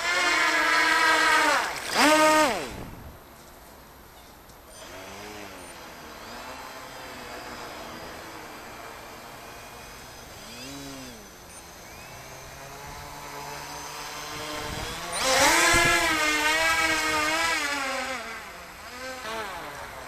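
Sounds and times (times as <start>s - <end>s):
electric motor whine: 0.0s - 3.2s, 4.7s - 20.0s.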